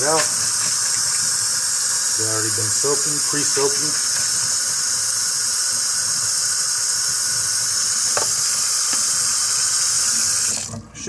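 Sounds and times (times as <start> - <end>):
tap water pouring over beans: 0.0 - 10.8.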